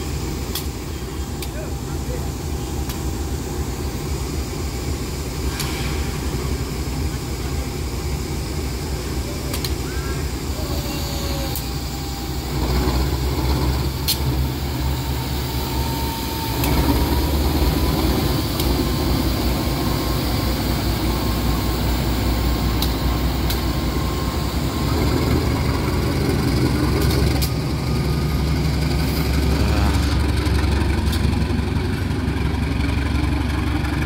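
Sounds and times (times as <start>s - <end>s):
faint steady whine: 0.0s - 32.0s
diesel locomotive engine idling: 0.0s - 34.0s.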